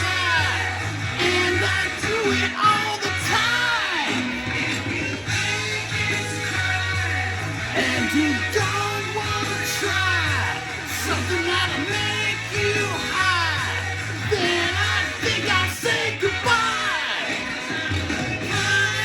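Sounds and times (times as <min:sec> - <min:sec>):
rock song with singing: 0:00.0 - 0:19.0.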